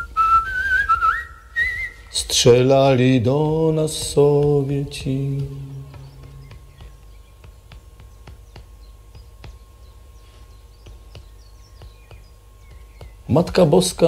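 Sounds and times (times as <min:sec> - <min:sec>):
low hum: 0:00.0 - 0:14.0
thin steady whine: 0:00.0 - 0:14.0.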